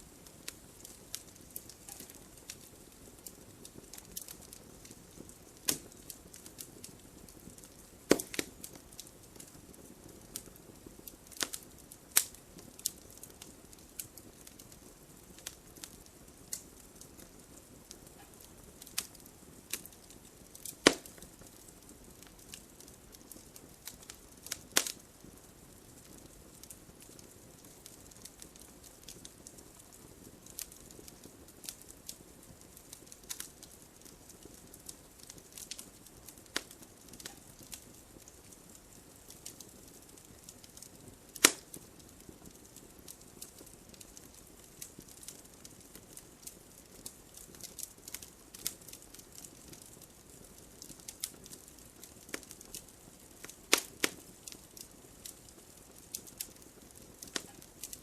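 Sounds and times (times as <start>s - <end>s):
faint steady hiss: 0.0s - 58.0s
wood fire crackling and popping: 0.0s - 58.0s.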